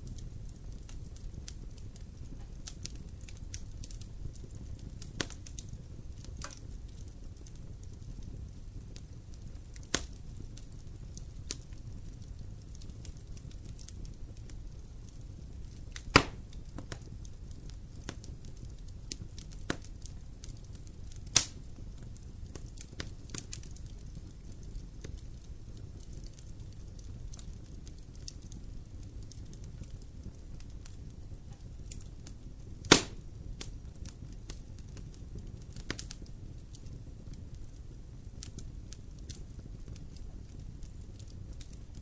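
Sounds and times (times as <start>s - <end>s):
fire crackles and pops: 0.0s - 42.0s
fire low rumble: 0.0s - 42.0s.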